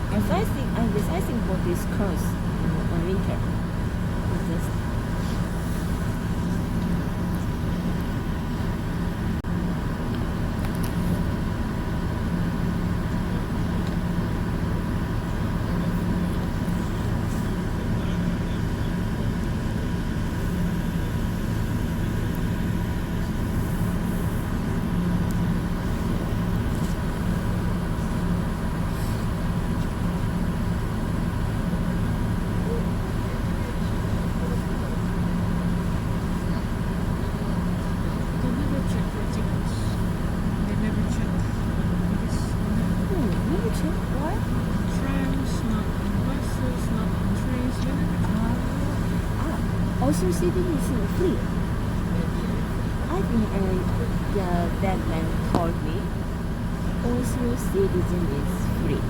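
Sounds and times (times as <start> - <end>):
bus engine drone inside bus: 0.0 - 59.0.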